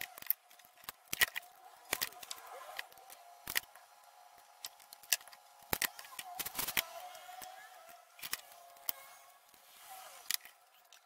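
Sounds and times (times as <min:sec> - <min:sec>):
tools clicking and knocking on wood: 0:00.0 - 0:09.0.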